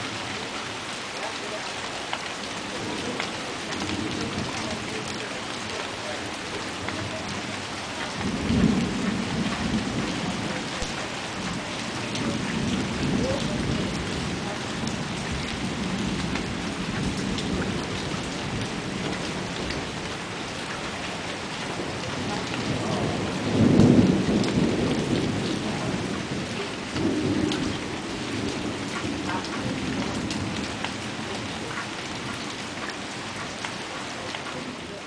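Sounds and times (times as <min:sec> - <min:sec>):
steady rain: 0:00.0 - 0:35.0
thunder rumbling: 0:02.6 - 0:33.4.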